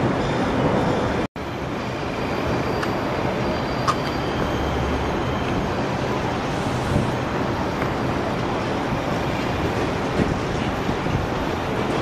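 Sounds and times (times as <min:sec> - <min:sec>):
subway trains: 0:00.0 - 0:12.0.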